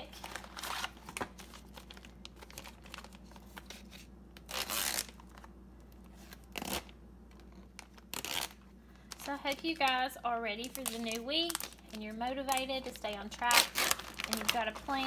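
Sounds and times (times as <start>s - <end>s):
plastic and cardboard crinkling: 0.0s - 15.0s.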